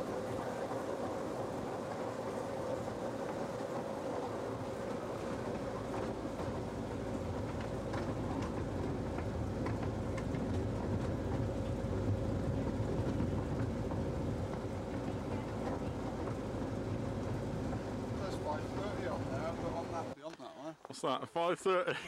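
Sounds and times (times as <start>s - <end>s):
miniature train engine drone: 0.0s - 20.2s
wheel and rail noise: 0.0s - 20.5s.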